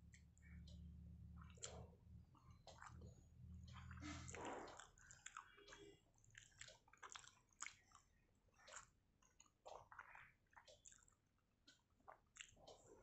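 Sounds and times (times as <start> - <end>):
chewing and wet mouth smacks: 1.4 - 13.0.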